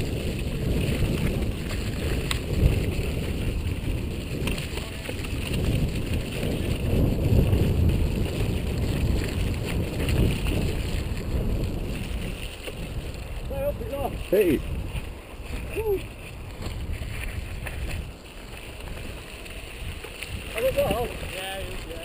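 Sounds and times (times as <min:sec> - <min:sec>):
mountain bike rattling: 0:00.0 - 0:22.0
wind rumbling on microphone: 0:00.0 - 0:22.0
bike knocking on rocks: 0:00.2 - 0:13.5, 0:14.2 - 0:22.0.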